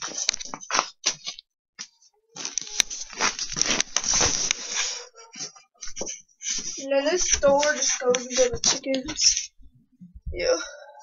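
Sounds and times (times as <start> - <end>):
rustling and crunching: 0.0 - 9.7.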